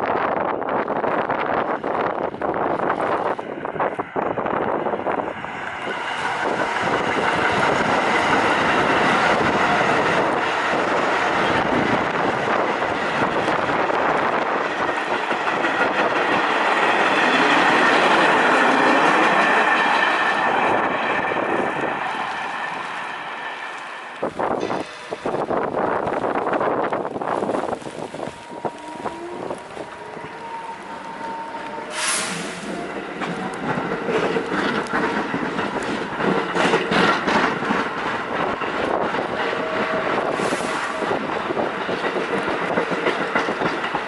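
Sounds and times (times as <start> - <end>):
subway train on rails: 0.0 - 44.0.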